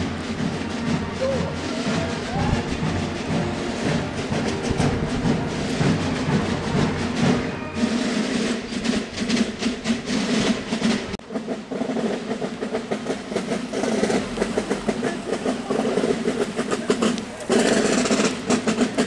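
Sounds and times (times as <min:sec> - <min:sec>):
drum band drumming: 0:00.0 - 0:19.0.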